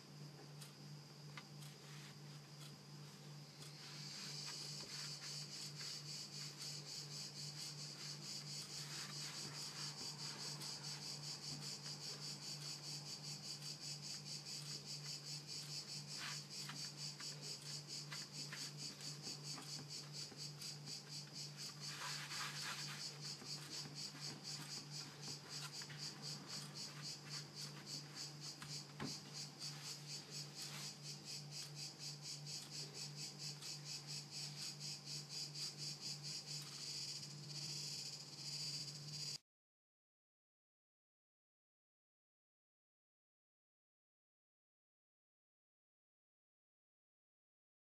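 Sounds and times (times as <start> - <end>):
steady low hum: 0.0 - 39.3.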